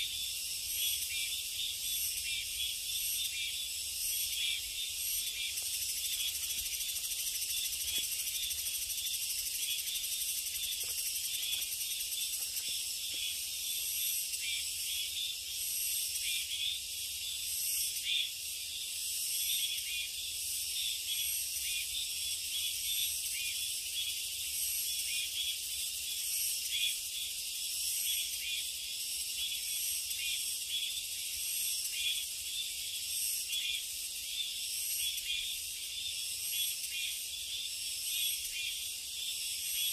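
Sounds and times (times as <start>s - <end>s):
insects shrilling: 0.0s - 39.9s.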